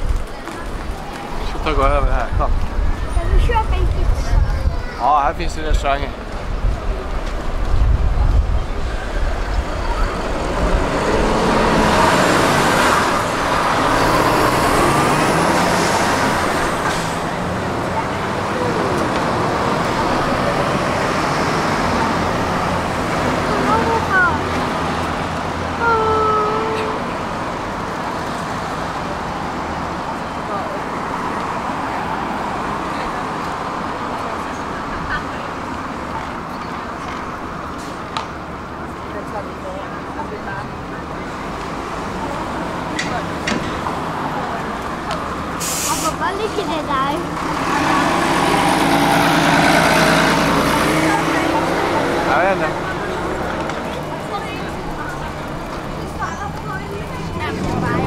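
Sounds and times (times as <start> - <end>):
heavy truck passing: 0.0 - 58.0
road vehicles passing: 0.0 - 58.0.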